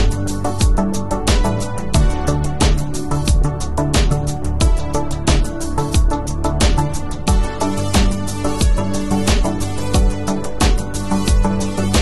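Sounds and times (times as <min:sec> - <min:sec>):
held bass and synth notes: 0:00.0 - 0:12.0.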